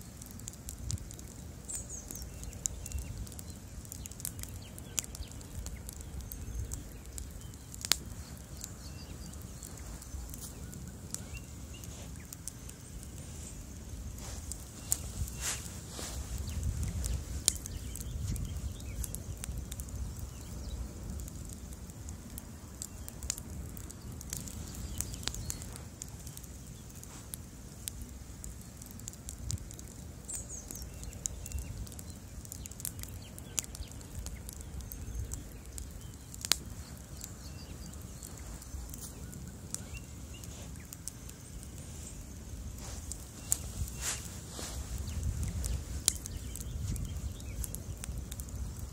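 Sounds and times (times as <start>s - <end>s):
bonfire flames rumbling: 0.0s - 48.9s
wood crackling and popping: 0.0s - 48.9s.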